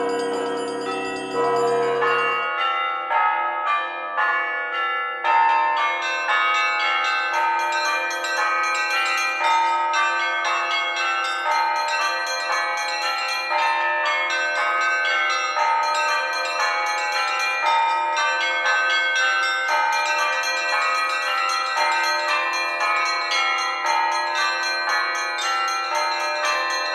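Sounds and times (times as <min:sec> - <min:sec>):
church bells ringing: 0:00.0 - 0:26.9.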